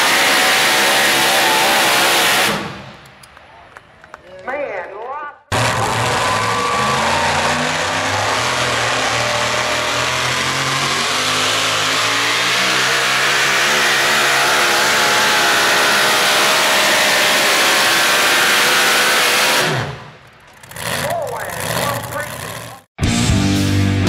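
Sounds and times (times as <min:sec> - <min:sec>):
truck engine revving hard: 0:00.0 - 0:03.0, 0:05.5 - 0:24.0.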